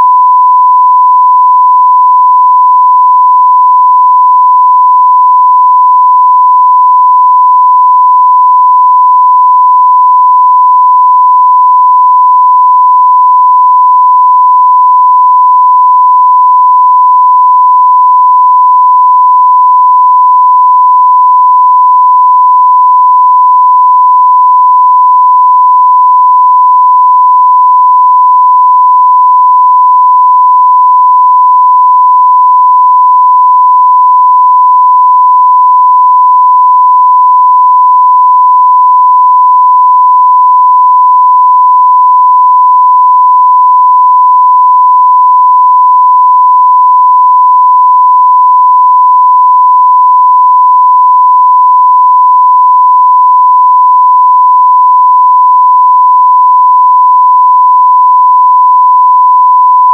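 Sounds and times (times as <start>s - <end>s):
sine wave test tone: 0.0s - 59.9s.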